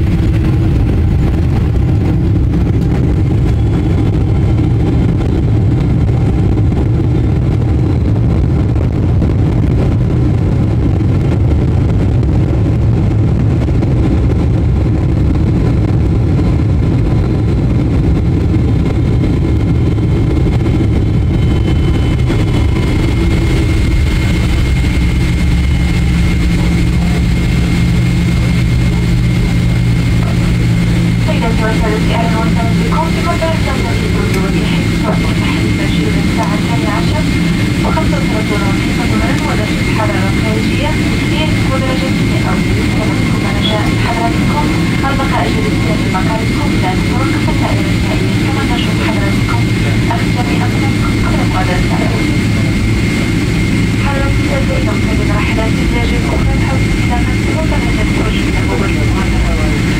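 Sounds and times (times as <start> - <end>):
deeper hum: 0.0 - 59.9
low engine and airframe rumble: 0.0 - 59.9
thin steady whine: 0.0 - 59.9.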